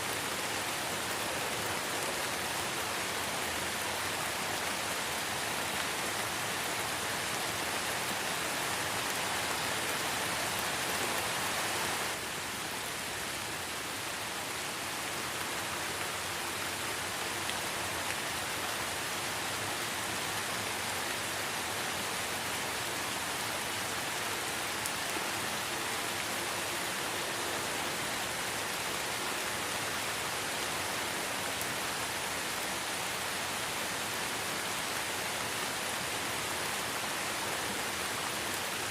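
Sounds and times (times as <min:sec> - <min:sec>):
light rain falling in forest: 0:00.0 - 0:38.9.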